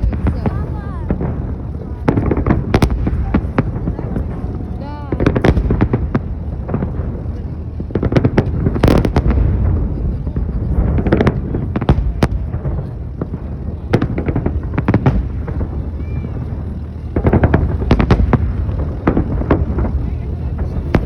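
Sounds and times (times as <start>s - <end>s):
fireworks booming: 0.0s - 21.0s
low rumble: 0.0s - 21.0s.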